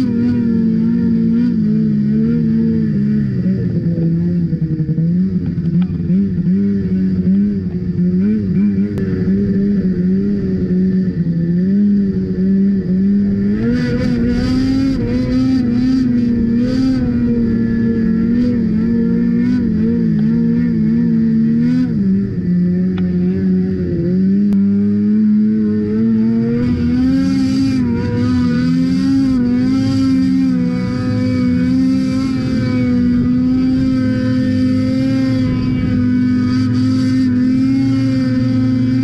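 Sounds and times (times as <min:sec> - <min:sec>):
snowmobile engine at high revs: 0:00.0 - 0:39.0.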